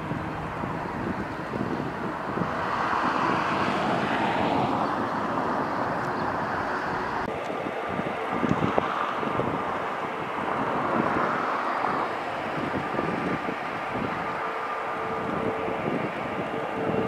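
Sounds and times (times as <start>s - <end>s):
distant jet engine whine: 0.0s - 17.0s
jet airliner takeoff roar: 0.0s - 17.0s
wind buffeting microphone: 0.0s - 17.0s.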